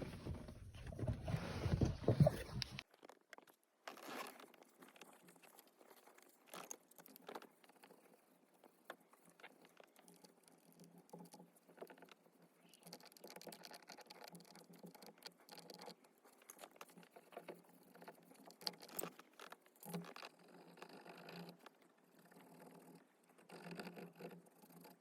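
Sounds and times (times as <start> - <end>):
small irregular clicks: 2.3 - 25.0.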